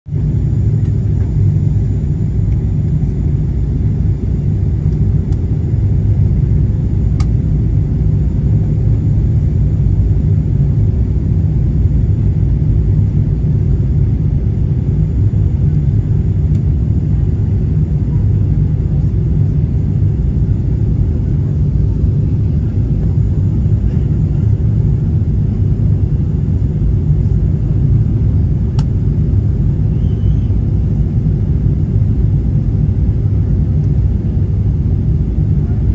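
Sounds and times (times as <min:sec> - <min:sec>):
airliner cabin engine rumble: 0:00.1 - 0:35.9.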